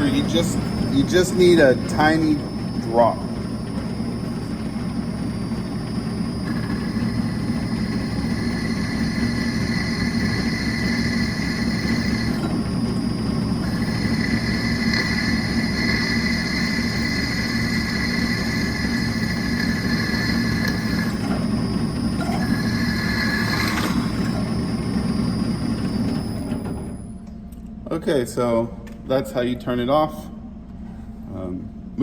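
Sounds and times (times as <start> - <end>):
drill press humming and whining: 0.0 - 32.0.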